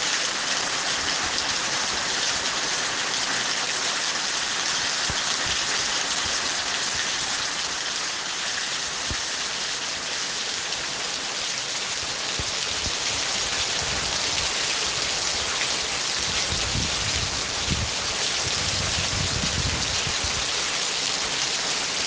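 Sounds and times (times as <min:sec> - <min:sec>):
heavy rainfall: 0:00.0 - 0:22.0.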